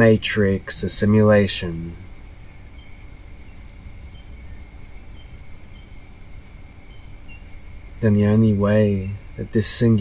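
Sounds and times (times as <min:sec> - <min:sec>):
bird chirps: 0:00.0 - 0:10.0
low background rumble: 0:00.0 - 0:10.0.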